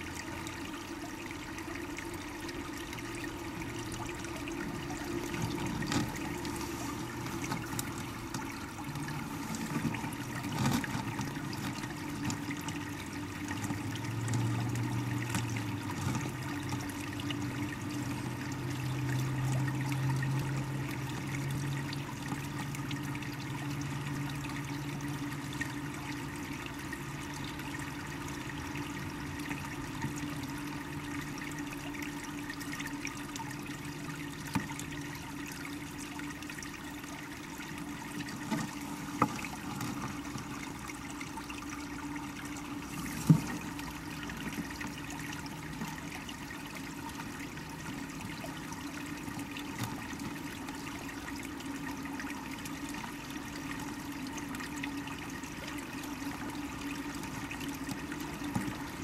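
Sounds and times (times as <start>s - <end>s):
underwater creek rushing: 0.0s - 59.0s.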